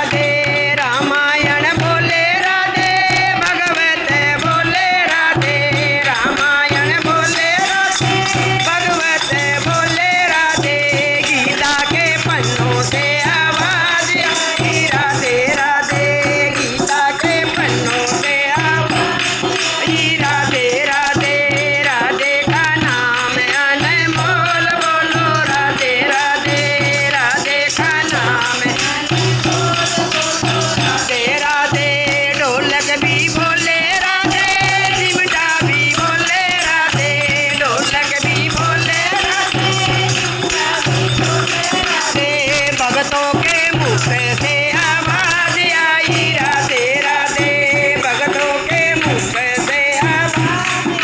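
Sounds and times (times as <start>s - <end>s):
devotional music: 0.0s - 51.0s
rattling percussion: 0.0s - 51.0s.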